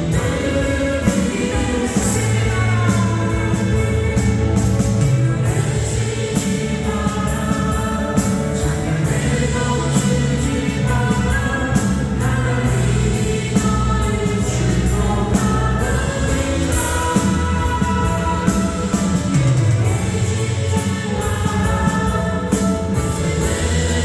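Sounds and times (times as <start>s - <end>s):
instrumental accompaniment with beat: 0.0s - 24.0s
voices singing worship song: 0.0s - 24.0s.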